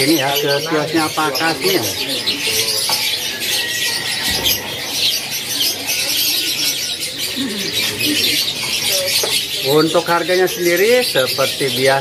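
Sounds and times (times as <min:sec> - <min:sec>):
canaries chirping and singing: 0:00.0 - 0:12.0.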